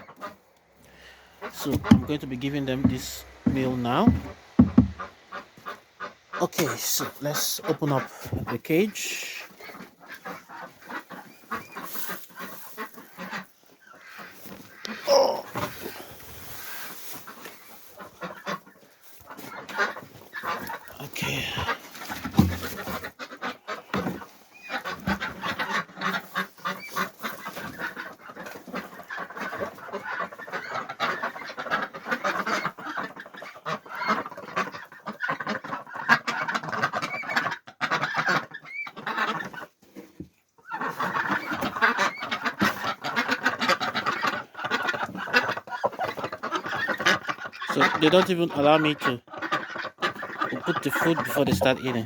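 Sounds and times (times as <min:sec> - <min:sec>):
ducks calling noisily: 0:00.0 - 0:39.9, 0:40.5 - 0:52.0.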